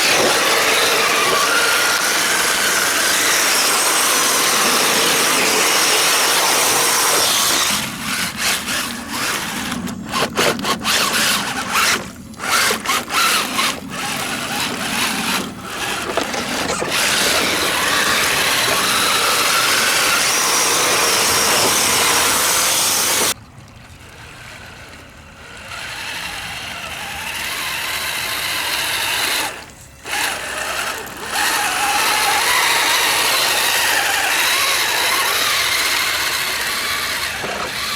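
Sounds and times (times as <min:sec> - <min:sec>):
rc truck motor whining: 0:00.0 - 0:23.4, 0:24.1 - 0:37.9.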